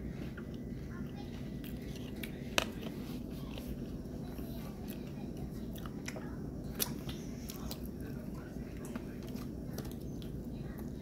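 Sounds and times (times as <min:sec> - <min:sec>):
chewing sushi: 0:00.0 - 0:11.0
low steady hum: 0:00.0 - 0:11.0.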